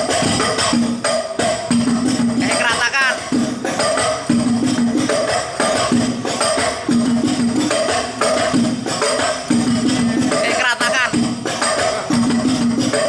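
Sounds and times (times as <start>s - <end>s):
frame drums playing rhythm: 0.0s - 13.0s.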